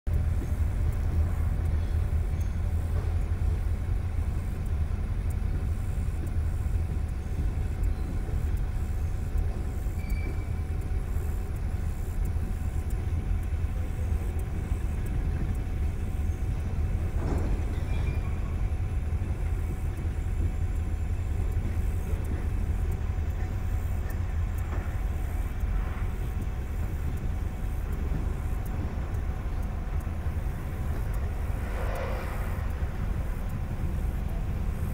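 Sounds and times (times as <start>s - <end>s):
car rumbling from inside: 0.1s - 34.9s.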